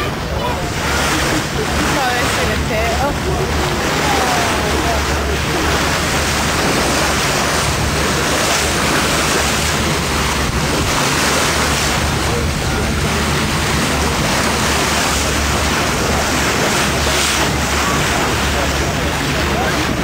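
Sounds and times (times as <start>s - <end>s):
low engine hum: 0.0s - 20.0s
water rushing along boat hull: 0.0s - 20.0s
wind on microphone: 0.0s - 20.0s.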